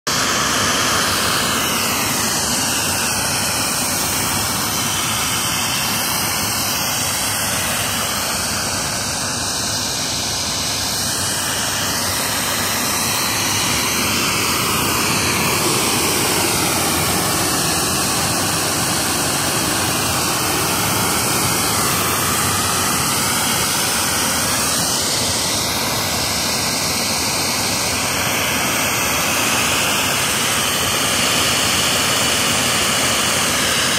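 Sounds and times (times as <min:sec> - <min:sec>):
compressed air hissing: 0:00.1 - 0:33.9.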